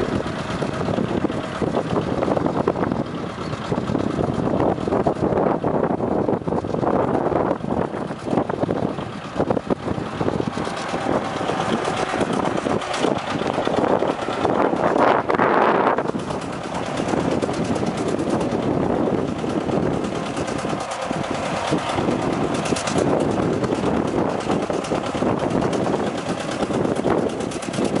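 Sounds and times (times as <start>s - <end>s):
tractor engine under load: 0.0s - 28.0s.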